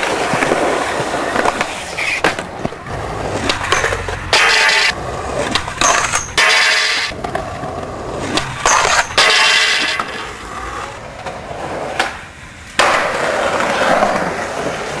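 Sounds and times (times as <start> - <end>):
skateboard scraping handrail: 0.0 - 12.2, 12.8 - 15.0
skateboard wheels rolling on concrete: 0.0 - 15.0.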